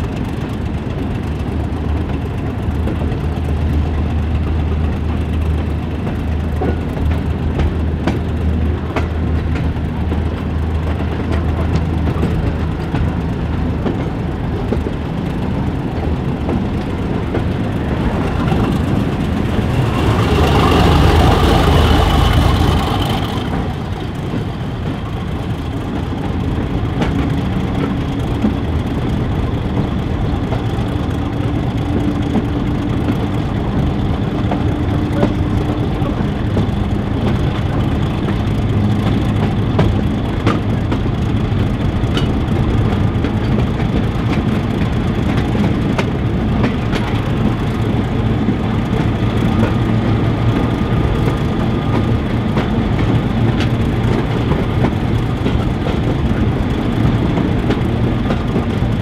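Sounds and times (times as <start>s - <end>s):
diesel locomotive engine working: 0.0s - 59.0s
rush of moving train: 0.0s - 59.0s
wheels clicking on track: 0.0s - 59.0s.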